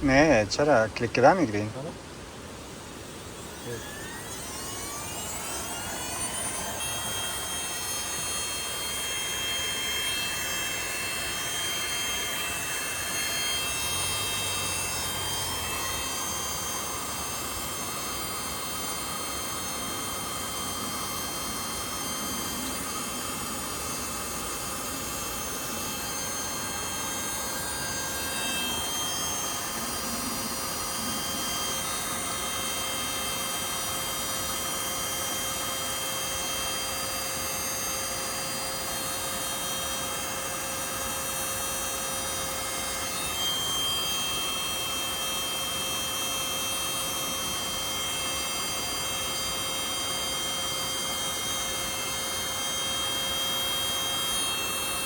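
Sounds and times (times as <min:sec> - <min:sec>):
electric fan whirring and whining: 0:00.0 - 0:55.0.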